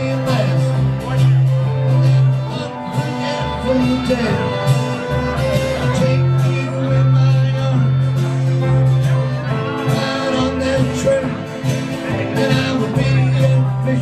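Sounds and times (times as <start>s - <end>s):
country band music: 0.0s - 14.0s
fiddle playing: 0.0s - 14.0s
person singing: 0.0s - 14.0s.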